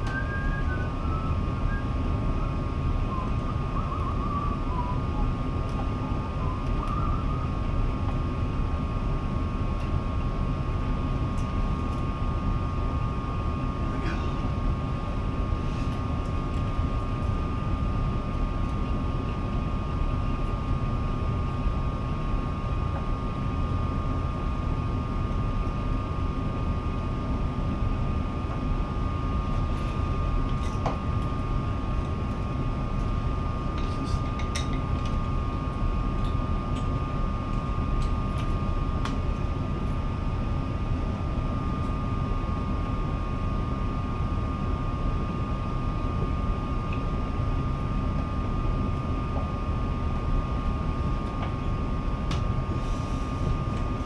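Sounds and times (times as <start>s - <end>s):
high hum: 0.0s - 54.0s
mechanical whirring rumble: 0.0s - 54.0s.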